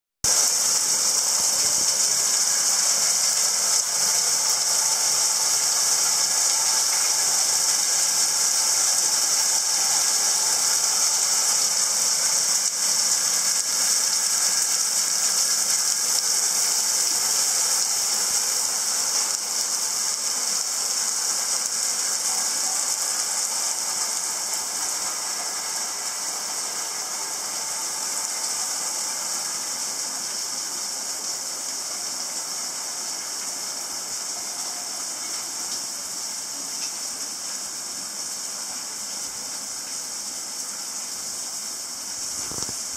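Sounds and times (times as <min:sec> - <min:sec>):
heavy rain hiss: 0:00.2 - 0:42.9.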